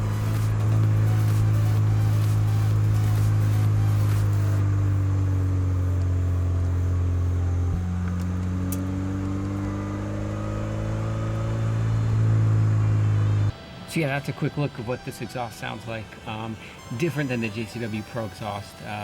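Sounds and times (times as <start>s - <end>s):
car engine and exhaust droning: 0.0s - 18.9s.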